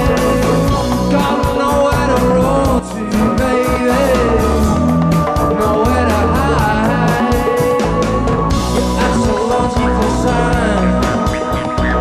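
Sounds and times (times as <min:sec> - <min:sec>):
bass: 0:00.0 - 0:12.0
bending lead melody: 0:00.0 - 0:12.0
drums with hi-hat ticks: 0:00.0 - 0:12.0
guitar: 0:00.0 - 0:12.0.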